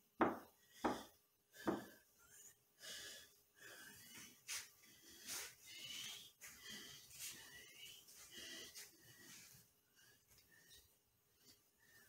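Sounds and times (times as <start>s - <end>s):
man breathing hard: 0.4s - 12.0s.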